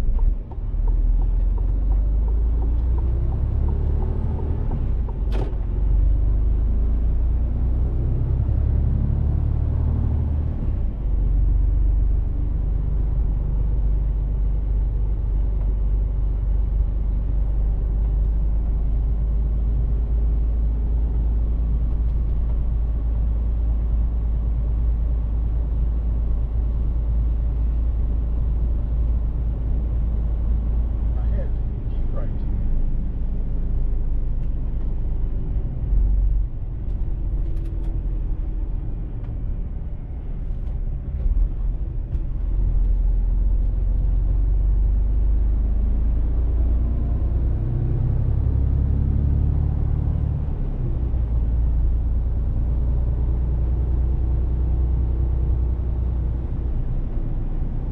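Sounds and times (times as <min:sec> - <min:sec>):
truck diesel engine rumble: 0:00.0 - 0:57.9.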